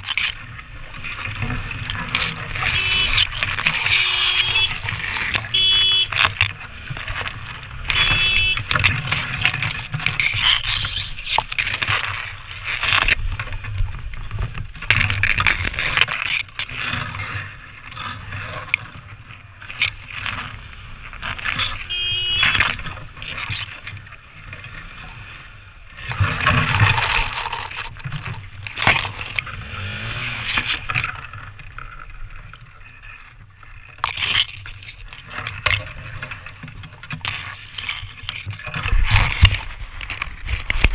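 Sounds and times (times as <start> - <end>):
grass rustling against camera: 0.0 - 40.9.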